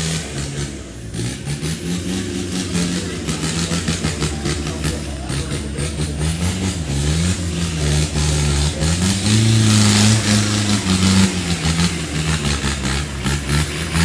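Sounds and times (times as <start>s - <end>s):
pickup engine revving under load: 0.0s - 14.0s.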